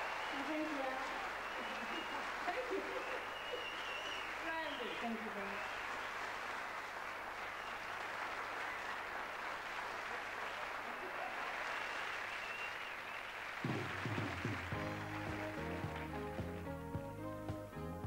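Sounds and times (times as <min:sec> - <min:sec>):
studio audience applauding: 0:00.0 - 0:16.7.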